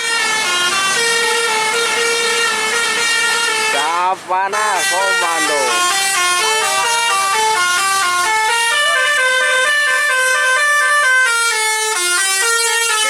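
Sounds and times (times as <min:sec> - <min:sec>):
multi-tone air horn melody: 0:00.0 - 0:13.0.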